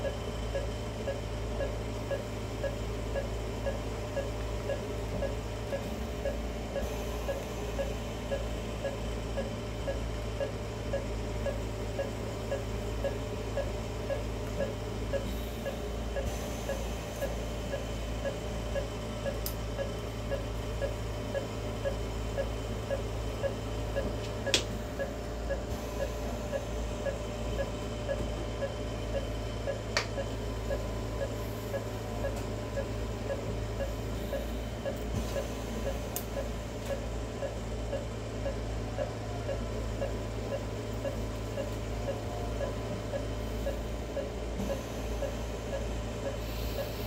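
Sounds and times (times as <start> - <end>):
low equipment hum: 0.0 - 47.0
monitor beeping: 0.0 - 47.0.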